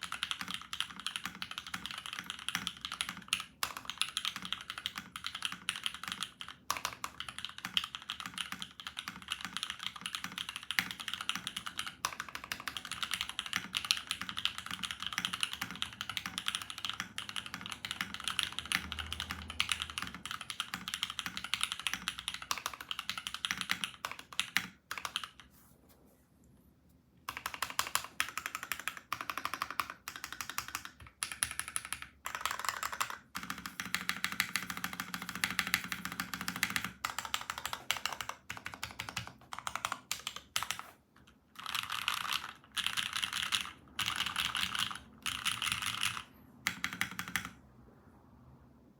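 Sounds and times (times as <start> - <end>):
mechanical keyboard typing: 0.0 - 25.5, 27.3 - 47.6.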